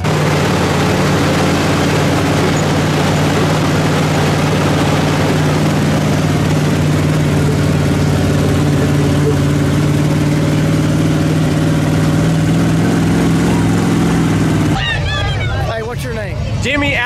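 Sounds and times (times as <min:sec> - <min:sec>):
thick rushing noise: 0:00.0 - 0:17.0
truck engine at high revs: 0:00.0 - 0:17.0.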